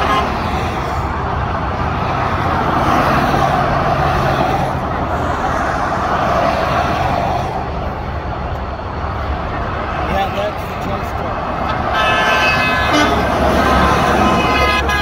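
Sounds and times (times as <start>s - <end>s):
traffic driving past: 0.0s - 15.0s.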